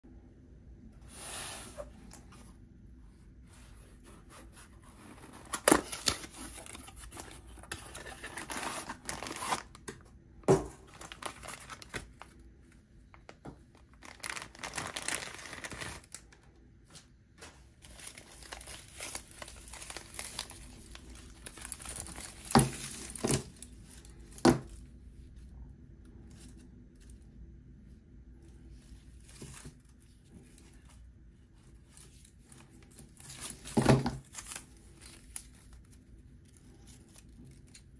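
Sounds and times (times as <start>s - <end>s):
cardboard and paper rustling: 3.5s - 25.5s, 28.4s - 37.9s.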